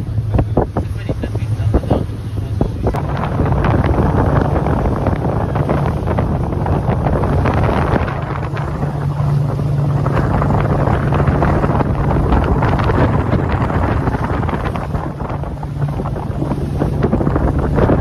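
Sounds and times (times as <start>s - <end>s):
ferry engine drone: 0.0s - 18.0s
wind buffeting microphone: 0.0s - 18.0s.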